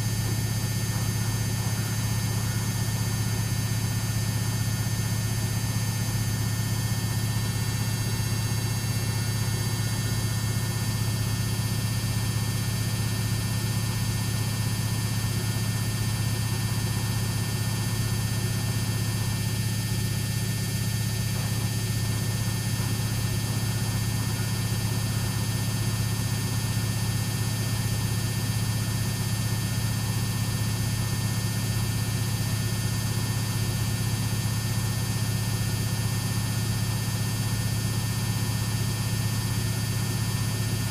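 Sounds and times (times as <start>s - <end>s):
washing machine spinning: 0.0s - 40.9s.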